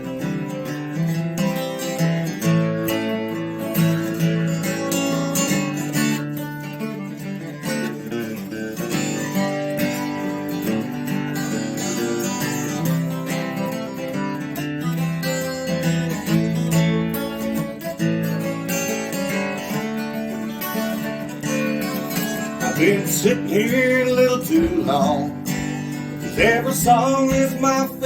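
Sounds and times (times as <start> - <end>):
instrumental country music: 0.0 - 28.0
strummed acoustic guitar: 0.0 - 28.0.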